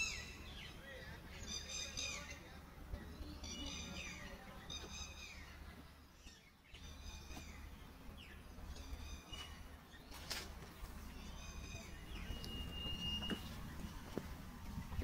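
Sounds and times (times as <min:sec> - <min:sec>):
bird calling: 0:00.0 - 0:02.5, 0:03.1 - 0:14.2.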